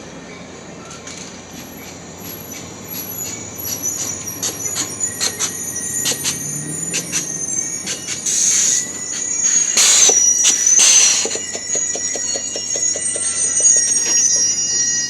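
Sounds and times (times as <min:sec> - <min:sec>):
train rolling on rails: 0:00.0 - 0:15.0
high wheel squeal: 0:01.0 - 0:15.0
metallic clicks and clanks from wheels: 0:01.0 - 0:15.0.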